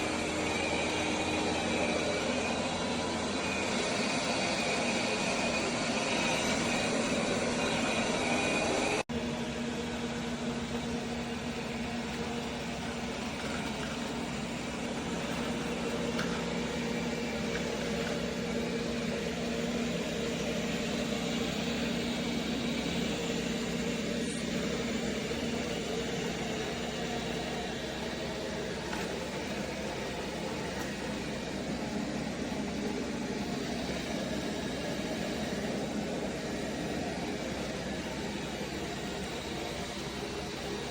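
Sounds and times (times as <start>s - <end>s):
robot vacuum motor hum: 0.0s - 9.0s, 9.9s - 40.9s.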